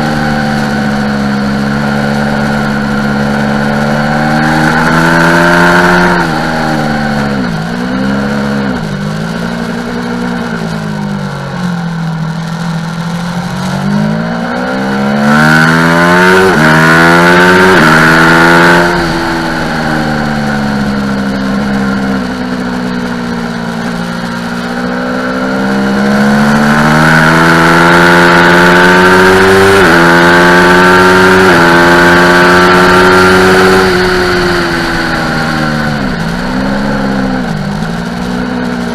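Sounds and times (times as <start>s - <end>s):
heavy wind noise: 0.0s - 24.7s, 28.6s - 38.9s
motorcycle engine revving: 0.0s - 38.9s.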